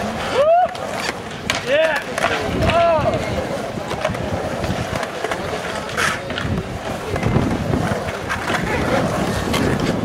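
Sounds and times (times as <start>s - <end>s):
skateboard clacks: 0.0s - 10.0s
skateboard wheels rolling on concrete: 0.0s - 10.0s.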